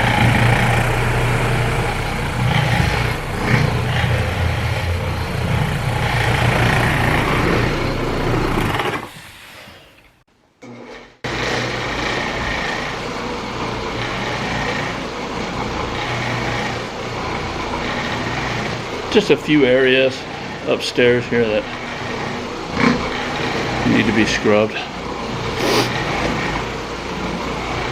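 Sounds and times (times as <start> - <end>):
carpet cleaning machine running: 0.0 - 10.2, 11.3 - 27.9.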